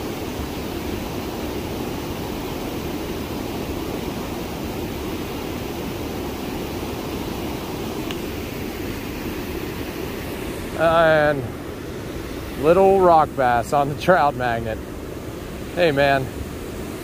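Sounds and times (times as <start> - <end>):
stream water flowing over rocks: 0.0 - 17.0.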